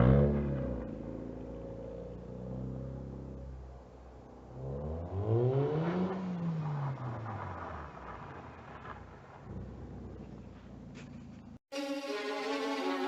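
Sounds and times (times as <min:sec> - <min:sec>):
car engine idling and revving: 0:00.0 - 0:11.6.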